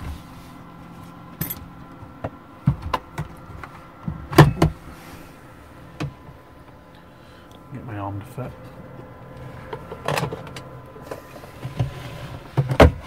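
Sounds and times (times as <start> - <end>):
cooling fans humming: 0.0 - 13.0.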